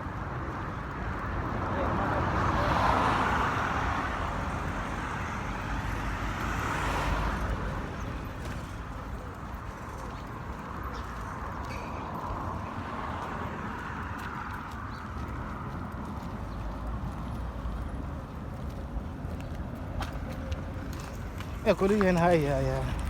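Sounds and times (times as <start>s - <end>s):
vehicles passing by: 0.0s - 23.0s.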